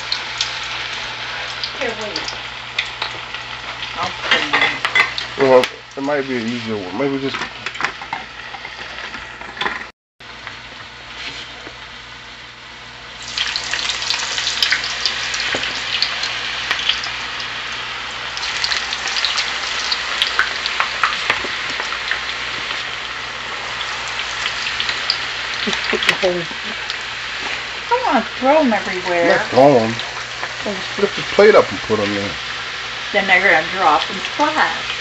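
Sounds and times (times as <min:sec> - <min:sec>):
oil sizzling with fries: 0:00.0 - 0:35.0.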